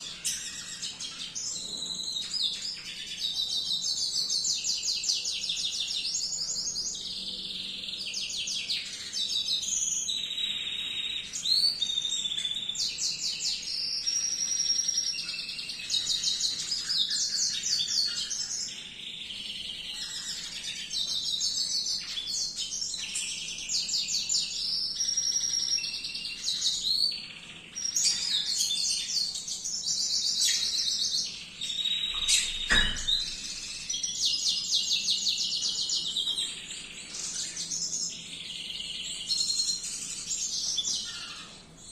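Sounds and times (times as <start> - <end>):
canary singing trills and whistles: 0.0 - 41.9.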